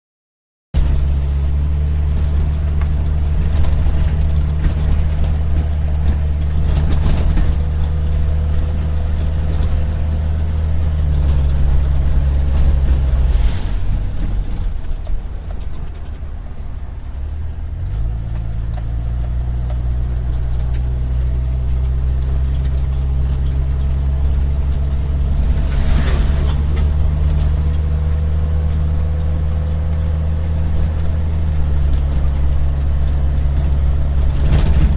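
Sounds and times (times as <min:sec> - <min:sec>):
vehicle engine drone: 0:00.8 - 0:34.9.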